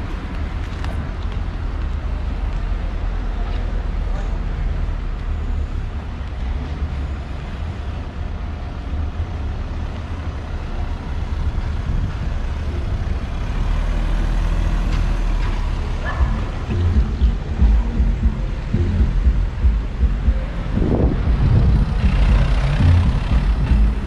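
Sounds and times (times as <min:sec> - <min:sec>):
car engines running: 0:00.0 - 0:24.0
low traffic rumble: 0:00.0 - 0:24.0.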